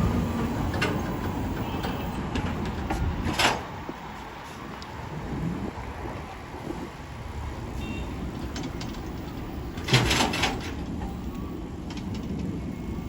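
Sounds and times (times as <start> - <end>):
road noise rumble: 0.0 - 13.0.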